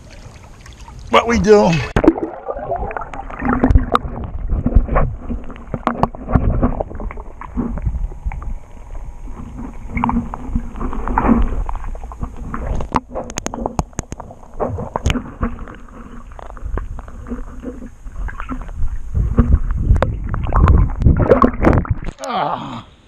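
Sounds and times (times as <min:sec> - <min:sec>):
underwater sloshing and gurgling: 0:00.0 - 0:22.2
low rumbles: 0:01.8 - 0:22.2.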